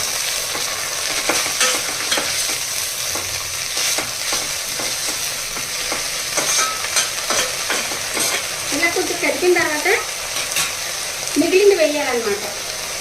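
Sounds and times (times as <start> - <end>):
herbs sizzling in hot oil: 0.0 - 13.0.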